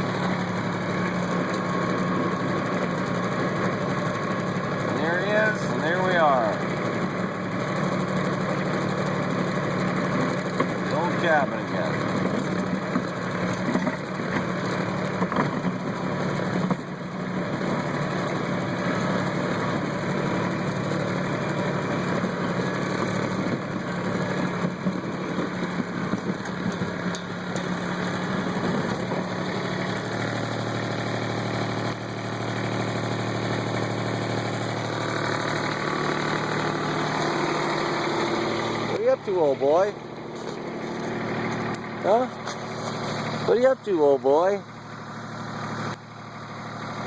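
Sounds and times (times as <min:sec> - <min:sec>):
tractor engine running: 0:00.0 - 0:47.0.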